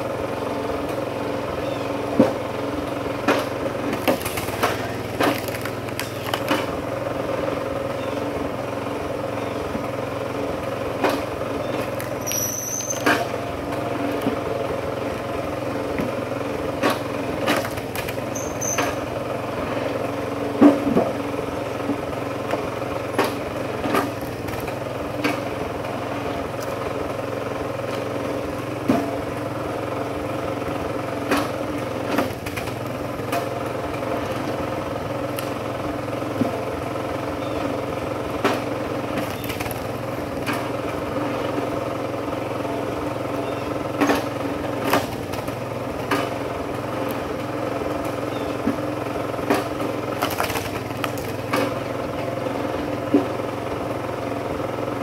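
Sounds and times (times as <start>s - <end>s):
small gas engine running: 0.0s - 55.0s.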